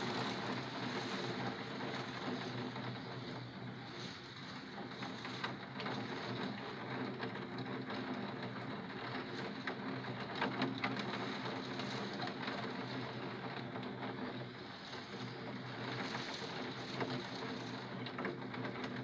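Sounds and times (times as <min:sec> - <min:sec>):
rain and graupel on a window: 0:00.0 - 0:19.0.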